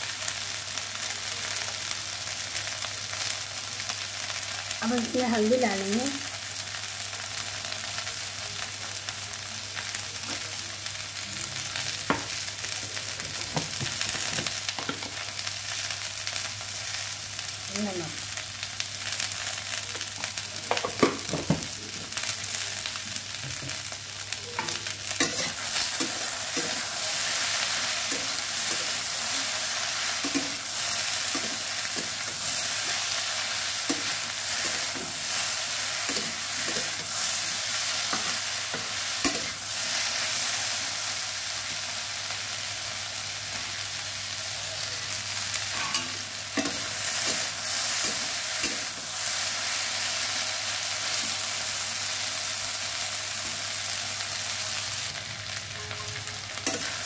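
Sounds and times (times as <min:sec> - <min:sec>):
vegetables sizzling in oil: 0:00.0 - 0:57.0.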